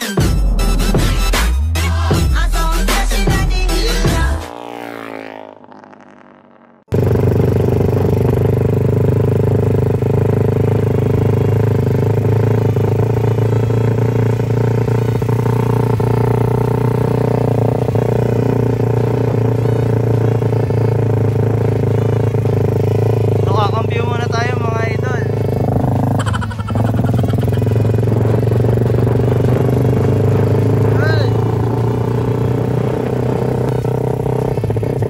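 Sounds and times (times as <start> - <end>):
motorcycle engine running steadily: 2.1 - 35.0.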